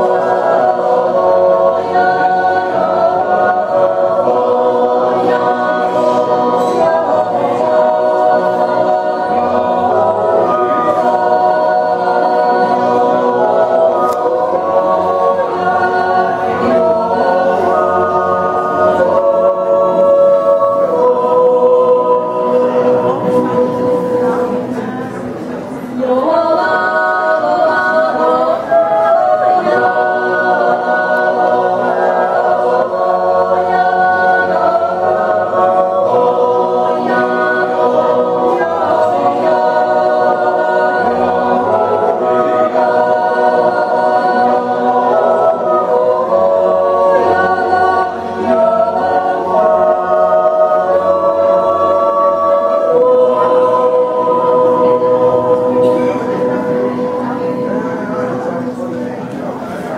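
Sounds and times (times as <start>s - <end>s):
choir yodeling a cappella: 0.0s - 59.9s.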